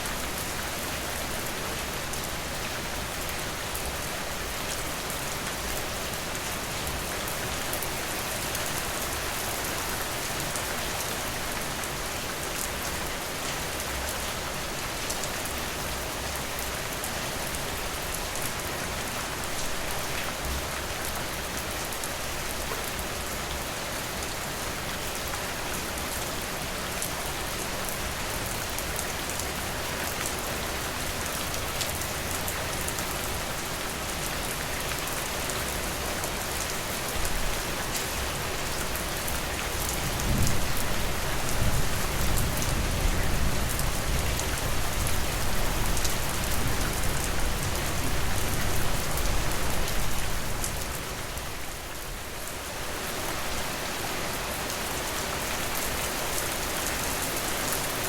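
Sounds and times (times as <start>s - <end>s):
steady rain with drop ticks: 0.0s - 58.0s.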